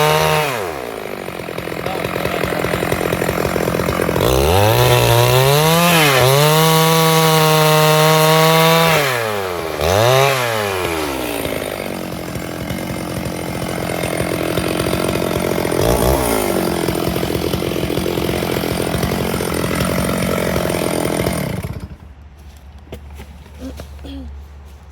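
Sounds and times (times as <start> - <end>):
chainsaw cutting wood: 0.0 - 22.2.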